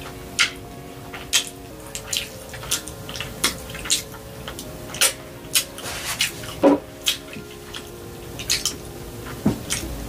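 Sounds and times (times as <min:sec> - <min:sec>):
wet chewing and lip-smacking: 0:00.0 - 0:09.9
faint steady hum: 0:00.0 - 0:10.0.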